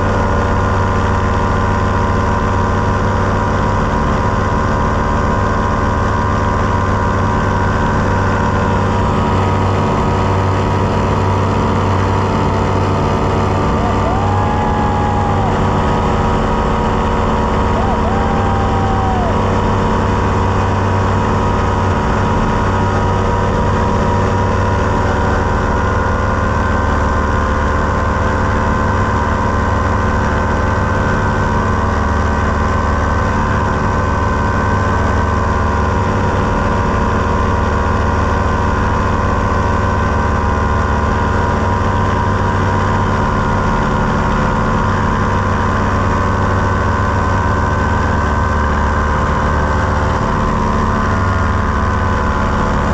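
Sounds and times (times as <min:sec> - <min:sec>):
paramotor engine and propeller drone: 0:00.0 - 0:52.9.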